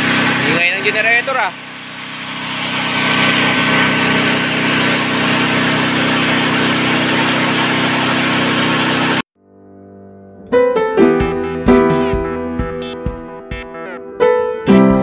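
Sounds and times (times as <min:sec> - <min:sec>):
generator engine droning: 0:00.0 - 0:09.3, 0:11.0 - 0:14.9.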